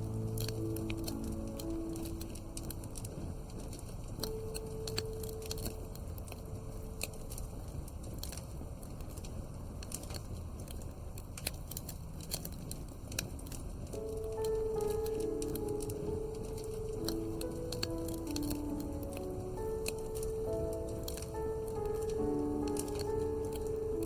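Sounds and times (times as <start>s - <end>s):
background music tones: 0.0s - 9.4s, 13.8s - 24.0s
low steady rumble: 0.0s - 24.0s
wood fire crackling: 0.0s - 24.0s.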